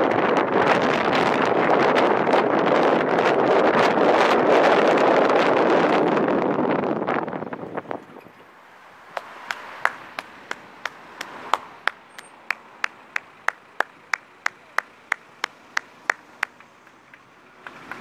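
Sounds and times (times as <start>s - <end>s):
passing traffic: 0.0s - 18.0s.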